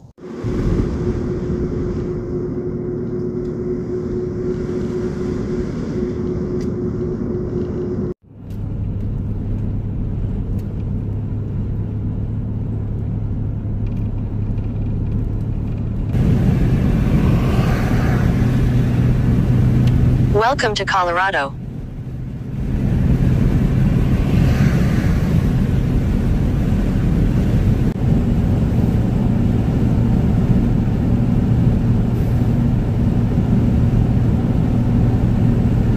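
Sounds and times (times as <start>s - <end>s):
van engine and tyre rumble: 0.0s - 35.9s.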